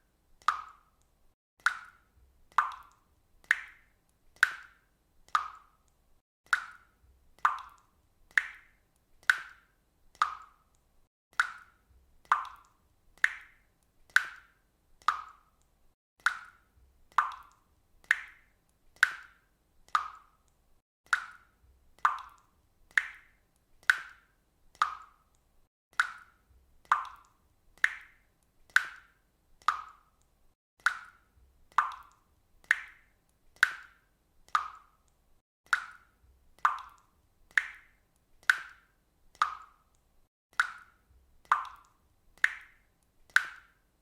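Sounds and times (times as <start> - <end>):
water dripping: 0.1 - 44.0.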